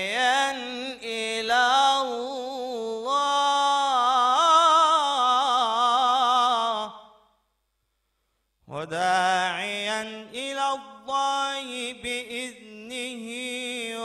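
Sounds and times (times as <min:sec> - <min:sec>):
man chanting melodically: 0:00.0 - 0:07.1, 0:08.7 - 0:14.0.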